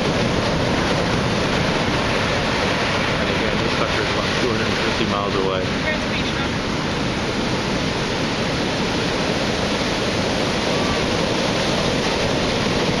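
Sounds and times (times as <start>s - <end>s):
heavy surf breaking around pilings: 0.0s - 13.0s.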